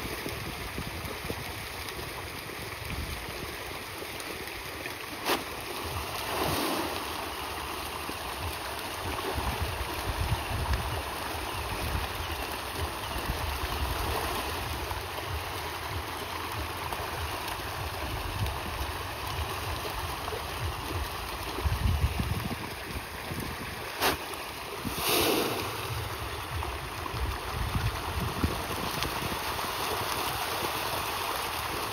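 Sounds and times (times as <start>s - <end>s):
wind rumbling on microphone: 0.0s - 3.6s, 8.2s - 31.9s
water noise: 0.0s - 31.9s.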